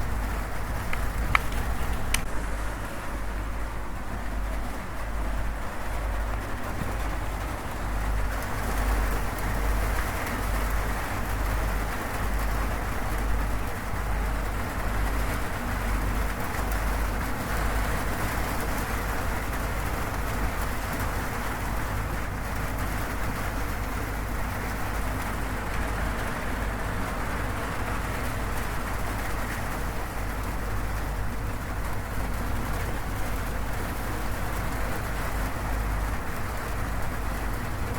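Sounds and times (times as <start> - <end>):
rain on a metal roof: 0.0 - 37.9.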